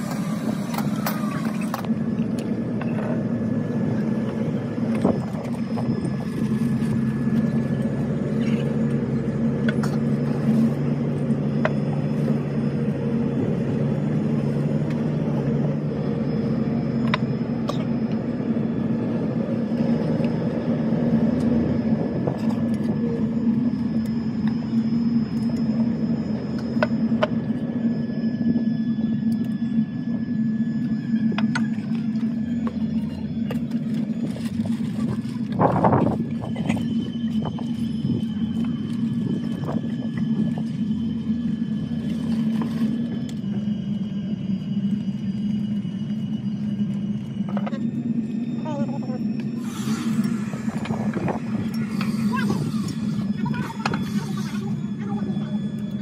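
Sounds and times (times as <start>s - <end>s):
machine humming: 0.0s - 56.0s.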